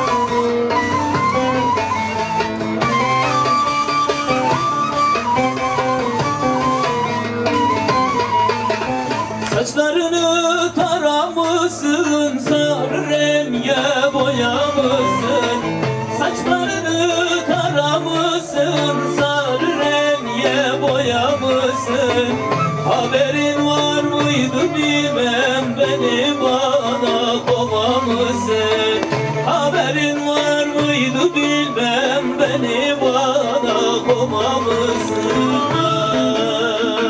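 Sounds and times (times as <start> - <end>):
folk song with instruments: 0.0 - 37.0.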